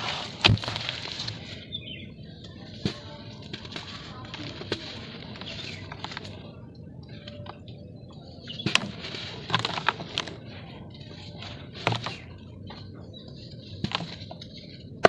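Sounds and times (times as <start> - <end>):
dry dirt crumbling and cracking: 0.0 - 15.0.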